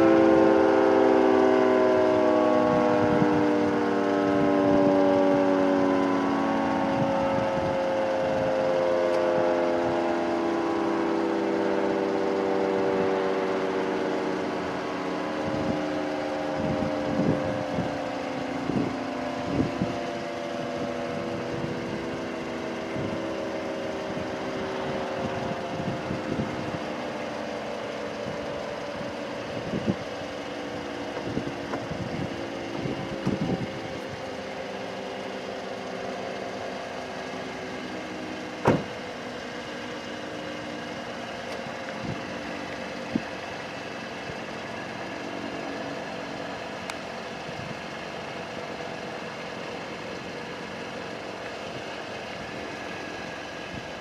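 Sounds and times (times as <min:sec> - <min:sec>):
rotating siren winding down: 0:00.0 - 0:54.0.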